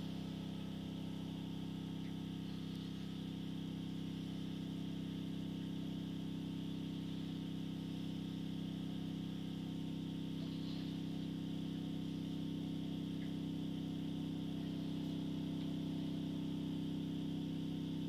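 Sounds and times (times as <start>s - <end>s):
low droning hum from toilet: 0.0s - 18.0s.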